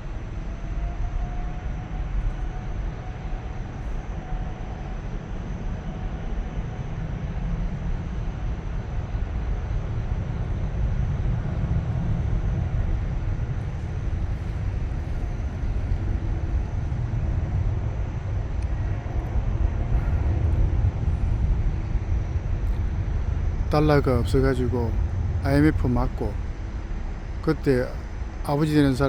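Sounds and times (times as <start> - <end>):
airplane flying overhead: 0.0 - 29.0.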